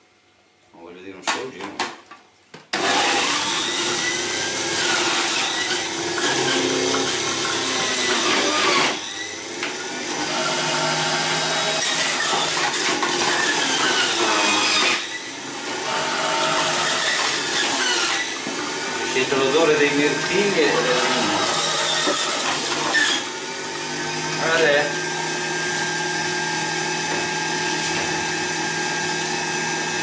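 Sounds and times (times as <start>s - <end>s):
juicer grinding fruit: 2.7s - 30.0s.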